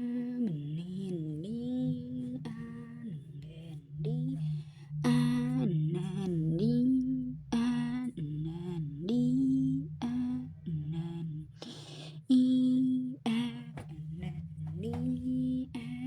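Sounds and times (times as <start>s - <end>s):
steady low drone: 0.1s - 16.0s.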